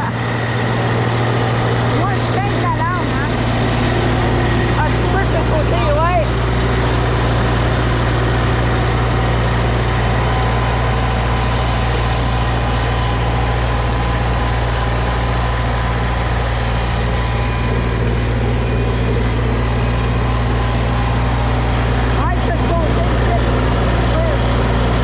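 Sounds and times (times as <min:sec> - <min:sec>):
small gasoline engine droning: 0:00.0 - 0:25.0.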